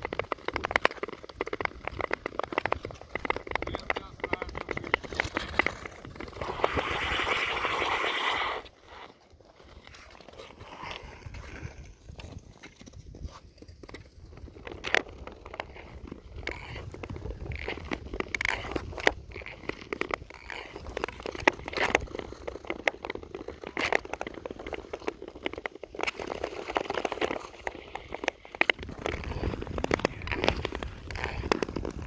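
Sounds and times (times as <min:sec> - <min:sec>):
skates scraping over ice: 0:00.0 - 0:32.0.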